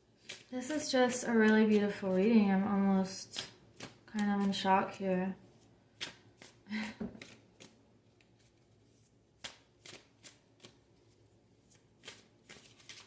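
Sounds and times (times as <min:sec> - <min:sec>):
cards being shuffled: 0:00.2 - 0:02.1, 0:03.4 - 0:13.0.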